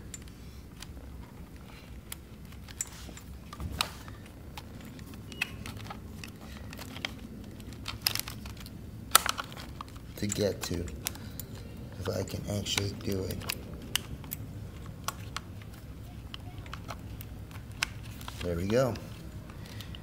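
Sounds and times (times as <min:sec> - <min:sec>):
plastic connector clicks and rattles: 0:03.5 - 0:20.0.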